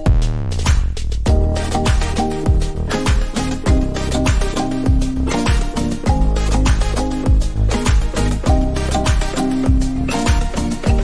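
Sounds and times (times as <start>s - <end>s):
upbeat music with bass: 0.0s - 11.0s.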